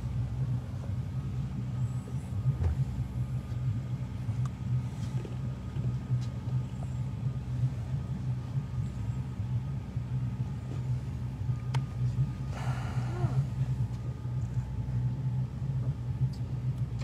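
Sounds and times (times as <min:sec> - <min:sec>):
outboard boat motor idling: 0:00.0 - 0:17.0.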